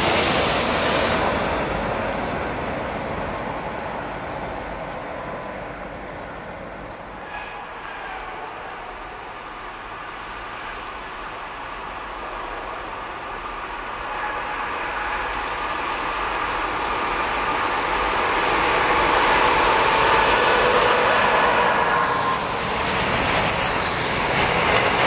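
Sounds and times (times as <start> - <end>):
freight train rumbling: 0.0 - 25.0.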